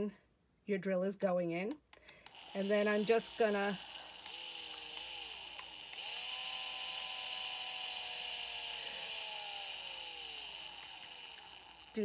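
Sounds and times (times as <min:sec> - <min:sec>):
electric drill motor whining: 0:02.0 - 0:12.0.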